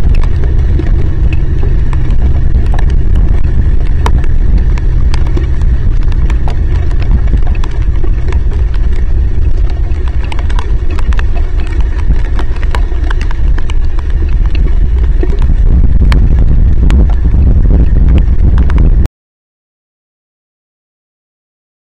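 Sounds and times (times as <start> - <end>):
heavy rain rumble: 0.0 - 19.1
rain drops ticking on microphone: 0.0 - 19.1.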